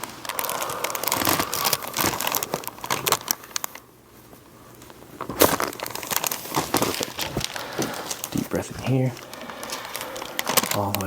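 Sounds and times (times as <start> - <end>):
crinkling on treatment table: 0.0 - 11.0.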